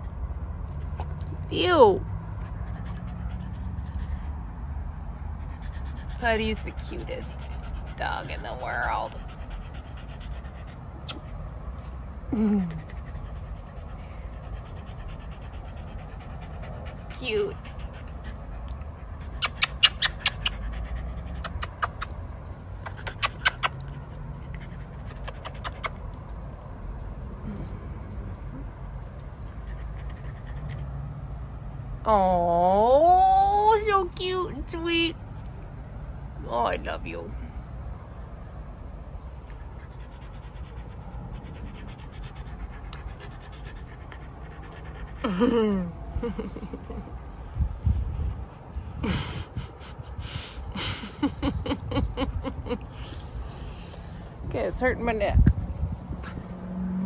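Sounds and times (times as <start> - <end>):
dog panting: 0.0 - 32.0, 38.0 - 57.0
low steady rumble: 0.0 - 57.0.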